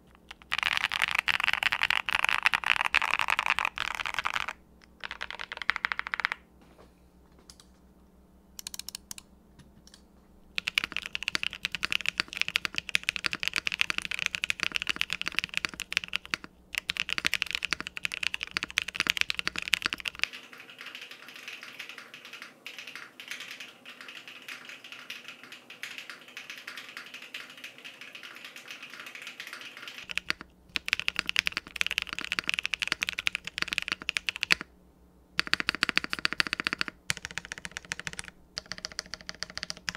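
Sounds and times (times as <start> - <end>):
mechanical keyboard typing: 0.2 - 6.4, 8.6 - 9.2, 10.6 - 34.7, 35.4 - 39.9.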